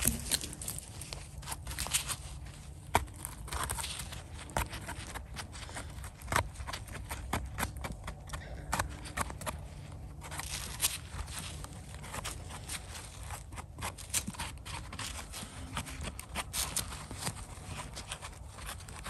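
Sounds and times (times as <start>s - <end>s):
knife scraping mushroom: 0.0s - 19.0s.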